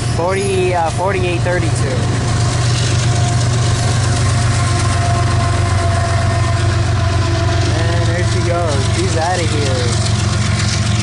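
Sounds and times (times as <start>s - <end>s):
diesel locomotive engine humming: 0.0s - 11.0s.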